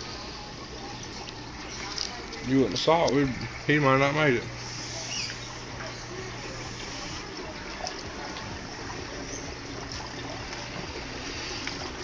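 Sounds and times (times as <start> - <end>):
low pump hum: 0.0 - 12.0
water trickling and splashing: 0.0 - 12.0.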